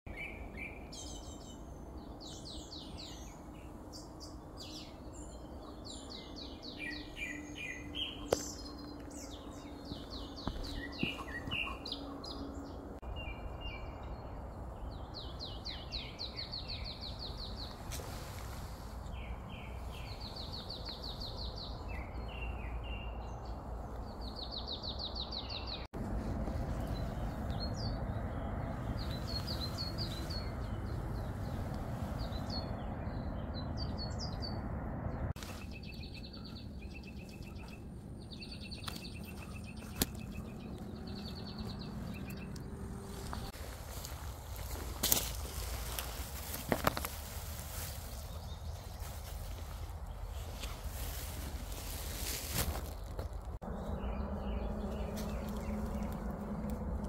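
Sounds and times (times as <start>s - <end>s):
low outdoor background noise: 0.1s - 57.0s
songbirds trilling: 0.1s - 57.0s.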